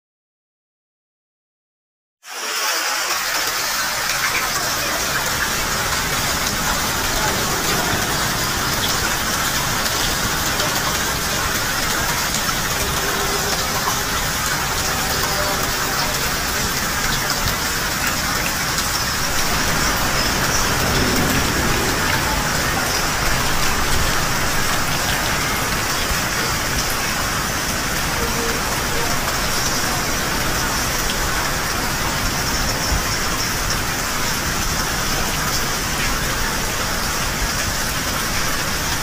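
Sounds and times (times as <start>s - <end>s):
heavy rain falling: 2.3s - 39.0s.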